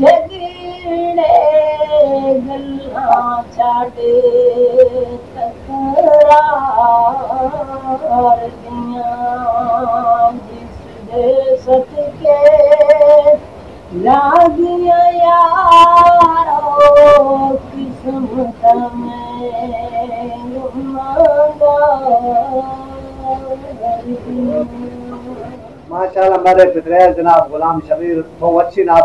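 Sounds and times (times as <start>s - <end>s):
man singing devotional song: 0.0s - 29.0s.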